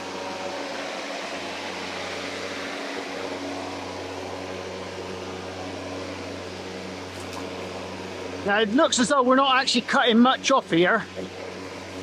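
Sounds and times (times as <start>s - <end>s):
electric lawnmower humming: 0.0s - 12.0s.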